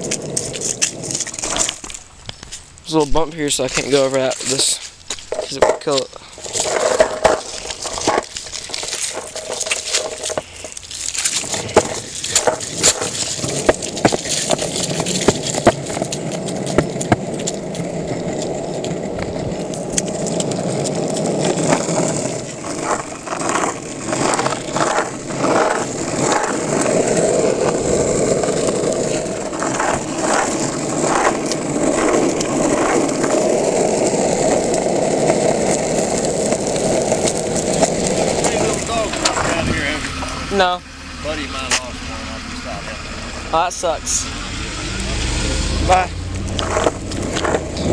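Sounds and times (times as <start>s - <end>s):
longboard wheels rolling on concrete: 0.0s - 47.9s.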